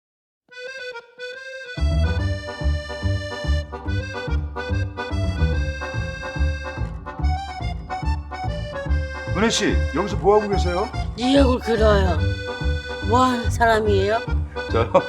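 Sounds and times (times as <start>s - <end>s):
reedy melody: 0.5s - 15.0s.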